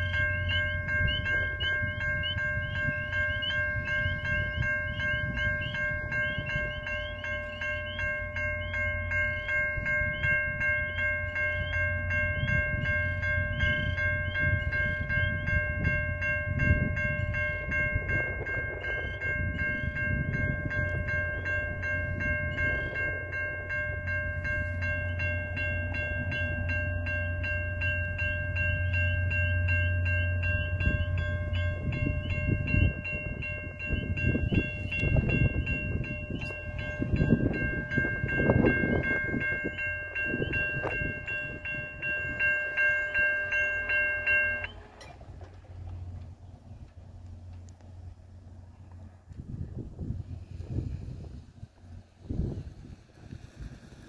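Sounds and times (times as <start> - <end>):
level crossing warning bell: 0.0 - 49.0
train cars rumbling past: 0.0 - 54.0.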